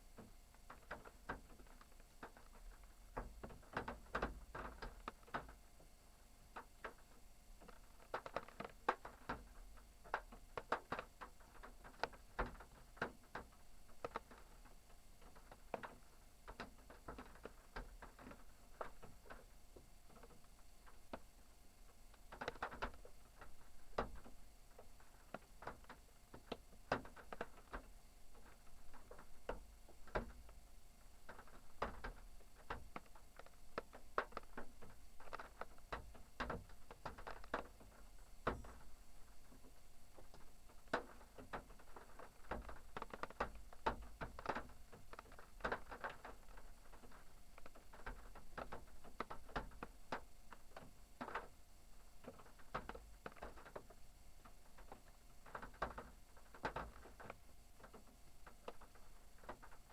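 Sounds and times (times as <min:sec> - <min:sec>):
faint clicks and light knocks: 0:00.1 - 0:59.9.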